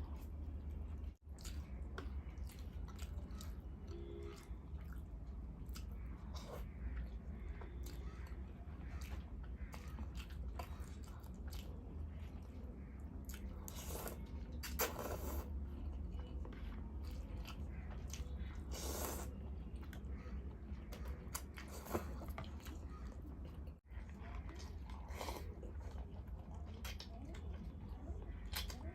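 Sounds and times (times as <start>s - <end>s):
person chewing and eating: 0.0s - 28.9s.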